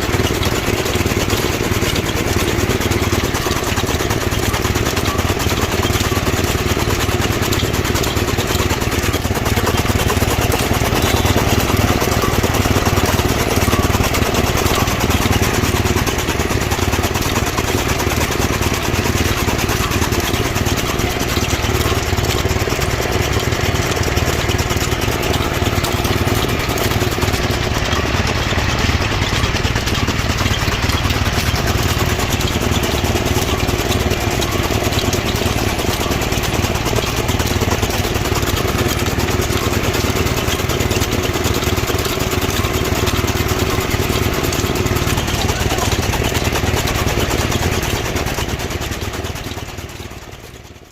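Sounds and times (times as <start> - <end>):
chaff cutter chopping fodder: 0.0 - 50.9.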